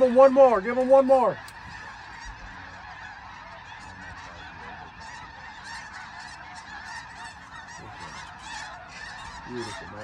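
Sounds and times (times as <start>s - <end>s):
flock of geese honking: 0.0s - 10.0s.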